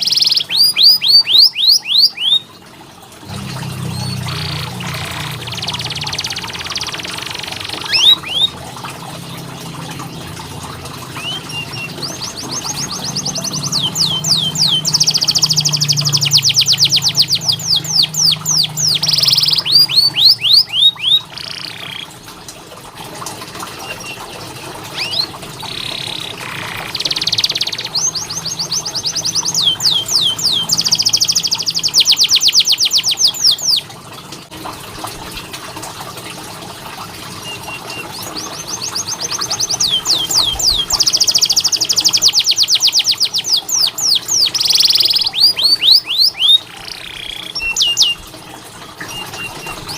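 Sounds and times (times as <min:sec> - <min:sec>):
canary singing trills: 0:00.0 - 0:02.5, 0:03.3 - 0:08.6, 0:11.0 - 0:22.1, 0:23.8 - 0:33.9, 0:37.4 - 0:48.2, 0:49.0 - 0:49.9.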